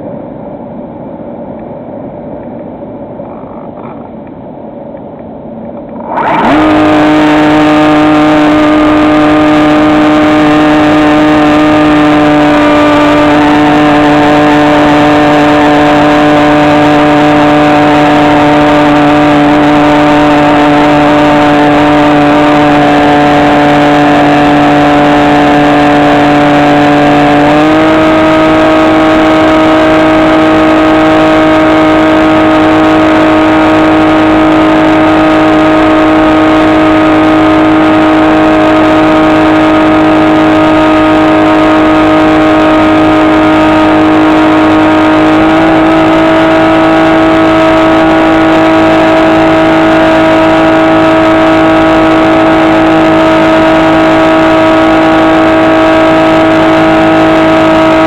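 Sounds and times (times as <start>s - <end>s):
model plane motor whine: 5.9s - 58.0s.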